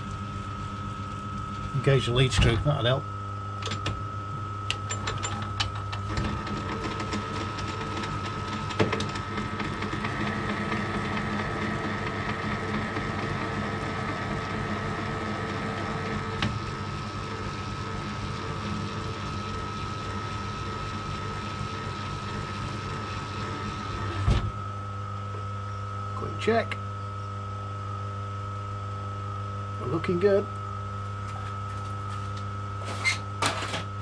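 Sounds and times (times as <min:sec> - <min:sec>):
lathe motor whine: 0:00.0 - 0:34.0.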